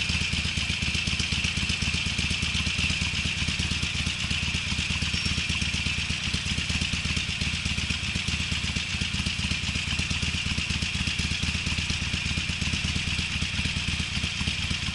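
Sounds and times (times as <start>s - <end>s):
motorcycle exhaust pulse: 0.0s - 14.9s.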